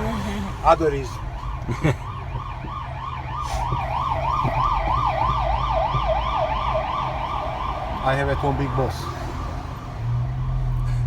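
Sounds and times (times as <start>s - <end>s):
car engine and road hum: 0.0s - 11.0s
emergency siren wailing: 0.5s - 11.0s.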